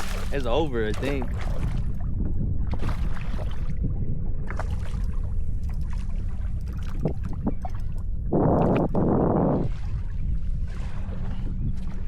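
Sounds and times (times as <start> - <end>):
water around kayak: 0.0 - 12.0
wind buffeting microphone: 0.0 - 12.0.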